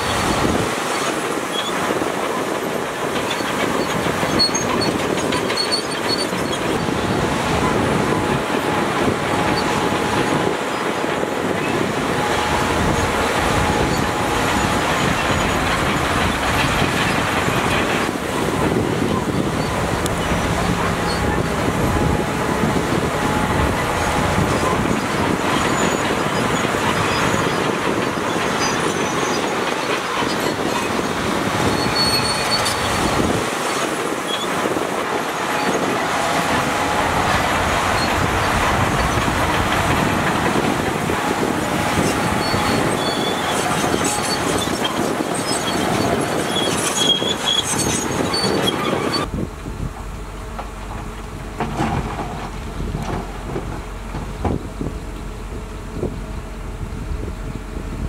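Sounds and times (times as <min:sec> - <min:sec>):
steel tracks clanking and squealing: 0:00.0 - 0:49.4, 0:50.0 - 0:56.6
bulldozer diesel engine under load: 0:00.0 - 0:58.0.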